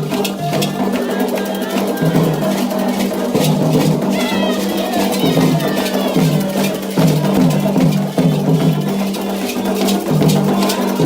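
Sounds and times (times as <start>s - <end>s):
hand drums beating: 0.0s - 11.0s
struck bell: 0.0s - 11.0s
sustained singing: 0.0s - 11.0s.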